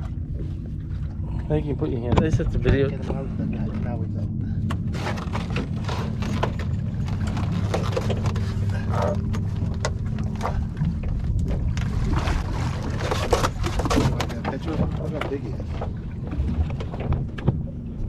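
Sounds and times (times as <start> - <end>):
boat low rumble: 0.0 - 18.0.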